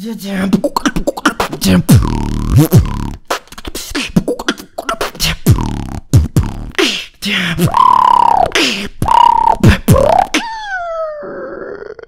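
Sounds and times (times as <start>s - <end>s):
man beatboxing: 0.0s - 10.6s.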